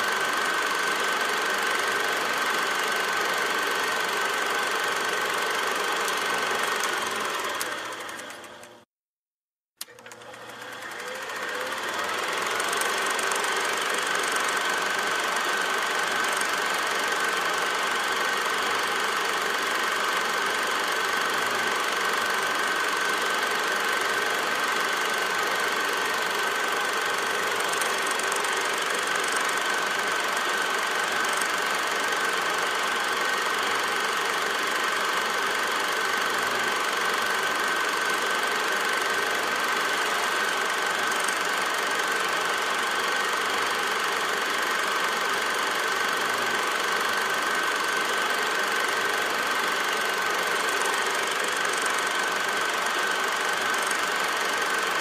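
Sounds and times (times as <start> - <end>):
small machine whirring: 0.0 - 8.9, 9.8 - 55.0.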